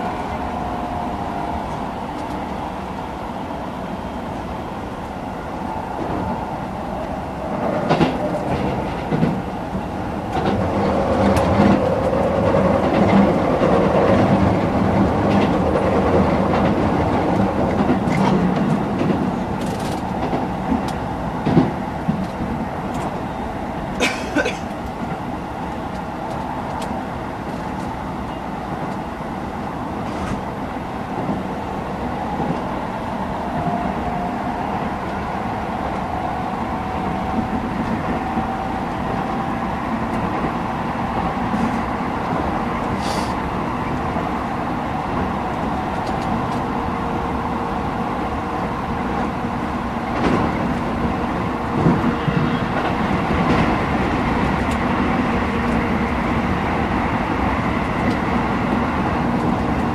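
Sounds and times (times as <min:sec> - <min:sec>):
rail joint clicks: 0:00.0 - 0:59.9
wheel and rail noise: 0:00.0 - 0:59.9.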